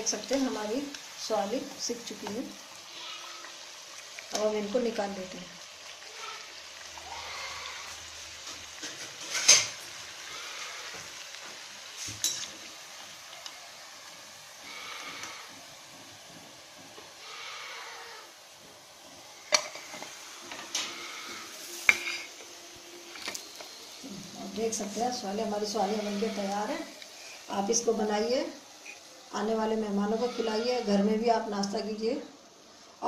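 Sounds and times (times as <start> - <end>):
hot oil sizzling faintly: 0.0 - 33.0.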